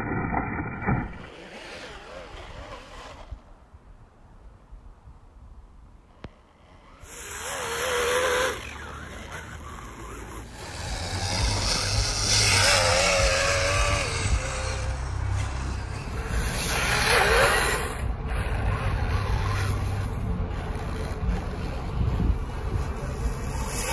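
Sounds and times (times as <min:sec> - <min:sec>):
wind rumble on microphone: 0:00.0 - 0:23.9
toy snowmobile motor whining: 0:01.3 - 0:03.4, 0:06.2 - 0:23.9.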